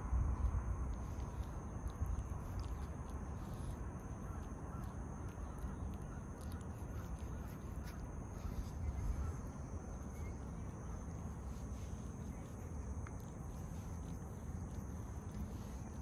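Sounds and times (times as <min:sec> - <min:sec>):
cat licking fur: 0:00.4 - 0:16.0
high insect trill: 0:00.6 - 0:16.0.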